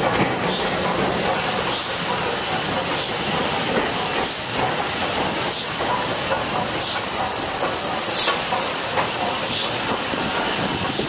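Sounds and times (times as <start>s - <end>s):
sharp hisses of steam: 0.0s - 11.0s
steam locomotive moving slowly: 0.0s - 11.0s.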